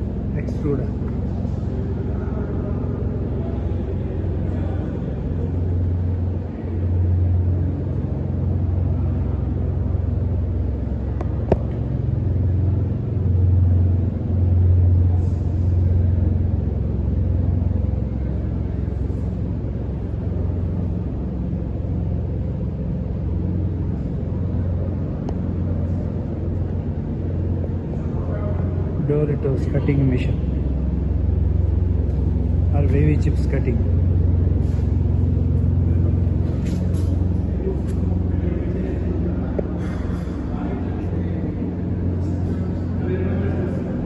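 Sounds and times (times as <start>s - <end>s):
electric motor hum and rumble: 0.0s - 44.0s.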